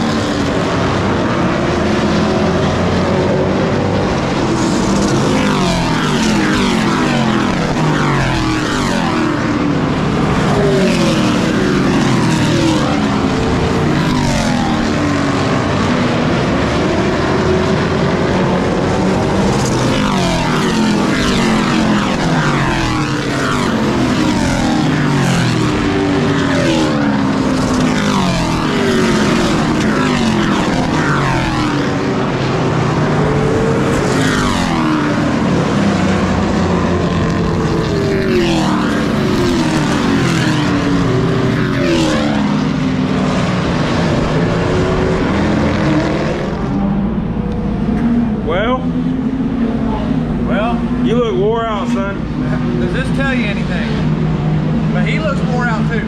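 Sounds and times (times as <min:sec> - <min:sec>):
race truck engines at full power: 0:00.0 - 0:56.0.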